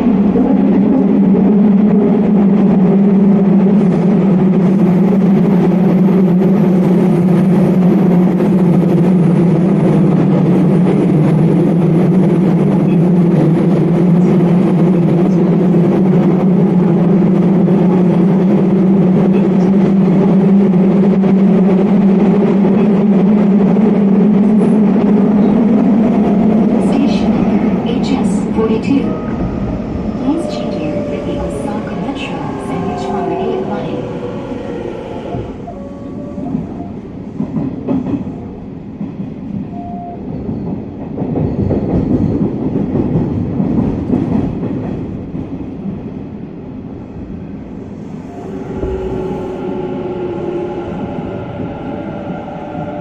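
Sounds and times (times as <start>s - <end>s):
train wheels rumbling: 0.0s - 53.0s.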